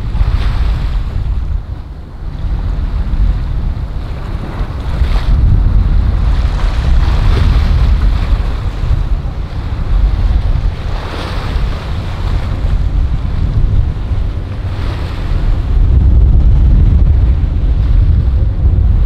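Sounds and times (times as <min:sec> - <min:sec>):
rush of water from boat wake: 0:00.0 - 0:19.0
wind buffeting microphone: 0:00.0 - 0:19.0.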